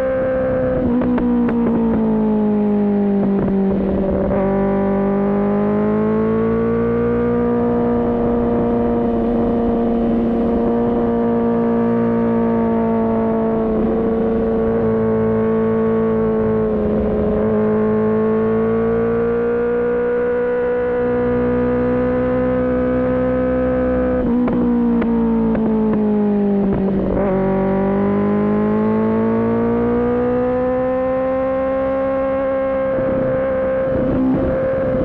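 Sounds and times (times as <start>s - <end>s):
motorcycle engine at high revs: 0.0s - 35.0s.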